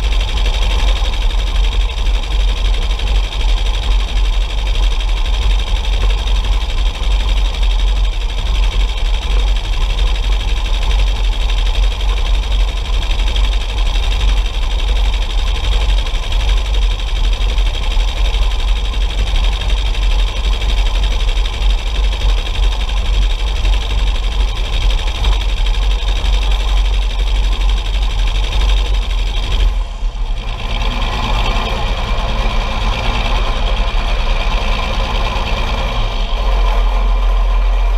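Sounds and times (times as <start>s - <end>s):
tractor diesel engine droning: 0.0s - 37.9s.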